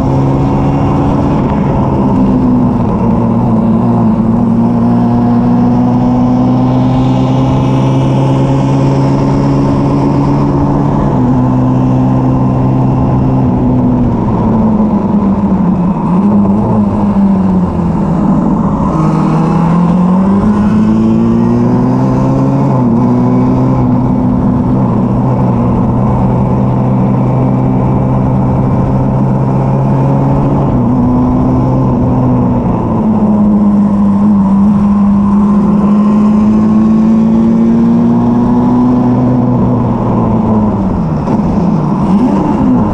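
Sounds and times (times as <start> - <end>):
race car engine under load: 0.0 - 42.9.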